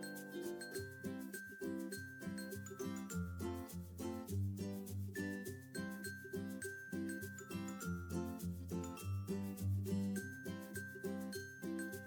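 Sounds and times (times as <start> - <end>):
light bouncy instrumental music: 0.0 - 12.0.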